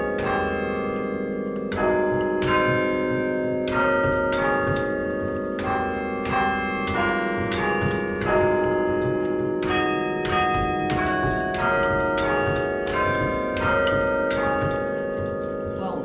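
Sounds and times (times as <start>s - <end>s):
church bells chiming: 0.0s - 16.0s.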